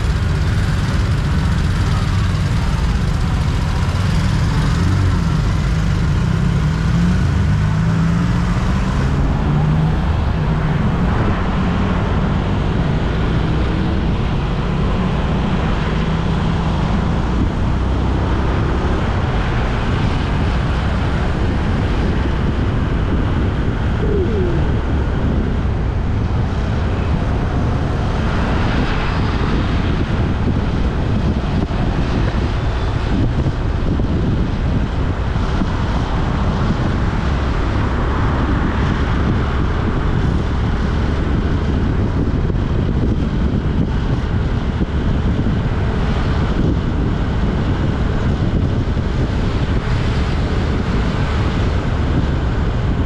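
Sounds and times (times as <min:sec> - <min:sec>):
vehicle road noise: 0:00.0 - 0:53.0
wind rush on microphone: 0:00.0 - 0:53.0.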